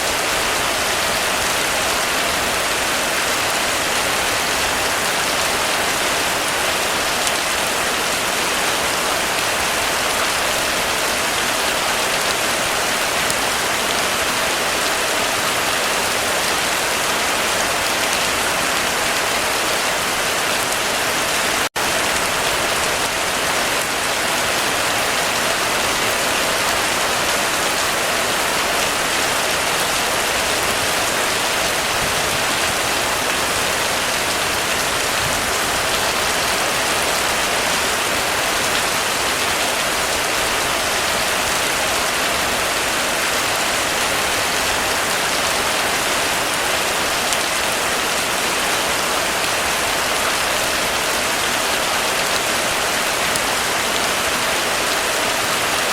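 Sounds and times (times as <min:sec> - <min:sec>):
heavy rain drumming on a roof: 0:00.0 - 0:55.9.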